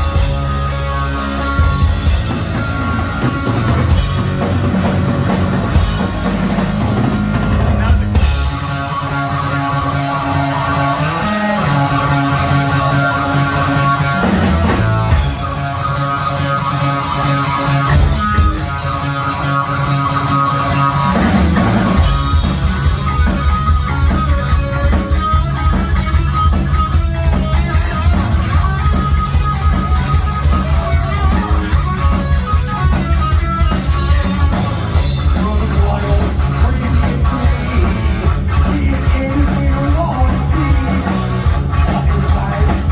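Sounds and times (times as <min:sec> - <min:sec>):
bass guitar: 0:00.0 - 0:42.9
distorted electric guitar: 0:00.0 - 0:42.9
drum kit: 0:00.0 - 0:42.9.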